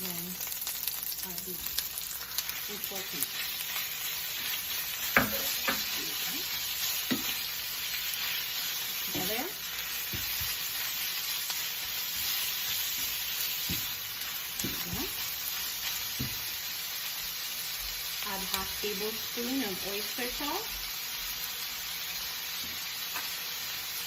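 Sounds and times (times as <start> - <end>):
meat sizzling in a frying pan: 0.0 - 24.0.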